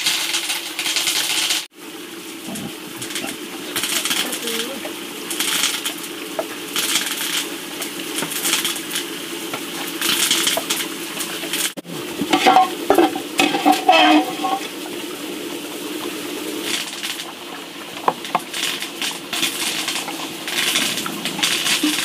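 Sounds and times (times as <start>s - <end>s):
dogs chewing and lapping: 2.4s - 14.6s, 16.0s - 22.0s.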